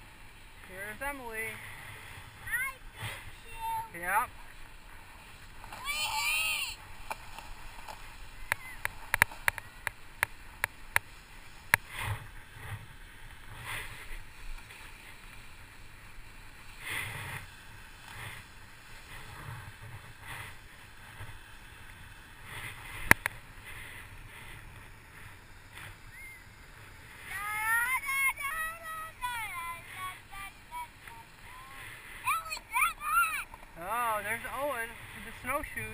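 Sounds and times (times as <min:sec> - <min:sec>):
bike tyres rolling over snow: 0:00.0 - 0:35.9.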